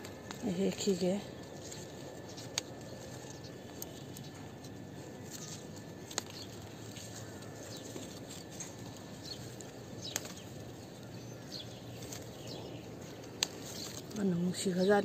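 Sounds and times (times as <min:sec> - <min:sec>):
leaves and twigs rustling: 0:00.0 - 0:15.0.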